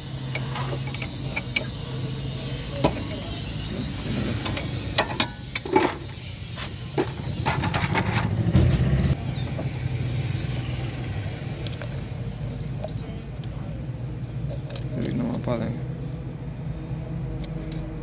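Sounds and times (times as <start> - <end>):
metal tools clinking on car parts: 0.0 - 10.7, 11.6 - 13.6, 14.2 - 16.2, 17.4 - 18.0.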